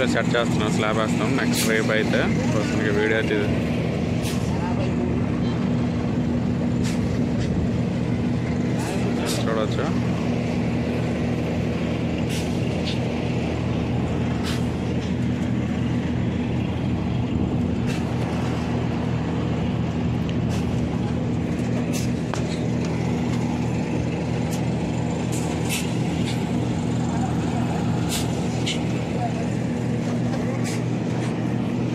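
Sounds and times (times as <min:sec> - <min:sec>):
engine running with low hum: 0:00.0 - 0:31.9.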